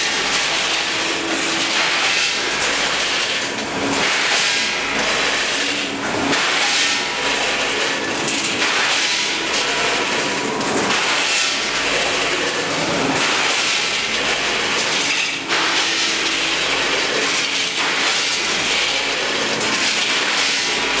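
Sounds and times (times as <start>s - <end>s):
pasta rattling and clattering: 0.0s - 21.0s.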